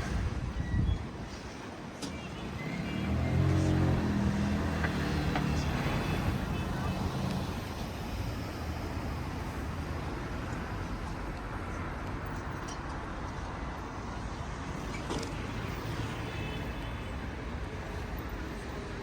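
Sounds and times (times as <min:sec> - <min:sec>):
road traffic rushing: 0:00.0 - 0:19.0.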